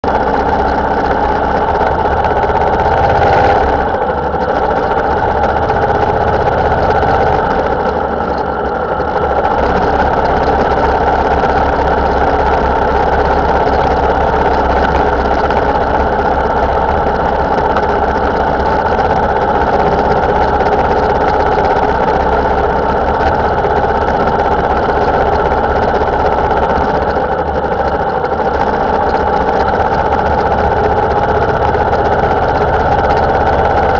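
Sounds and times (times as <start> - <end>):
motorcycle engine running: 0.0 - 33.9
road noise: 0.0 - 33.9.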